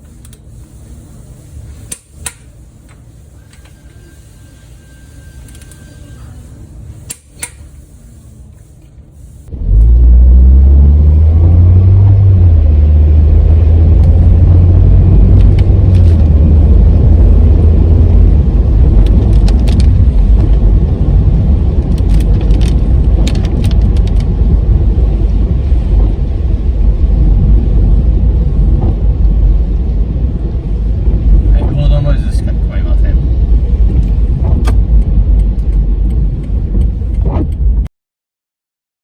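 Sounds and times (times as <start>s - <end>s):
car road noise rumble: 0.0s - 37.9s.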